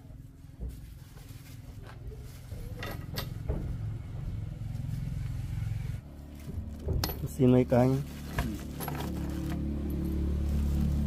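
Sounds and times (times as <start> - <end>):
low engine hum: 0.1 - 11.0.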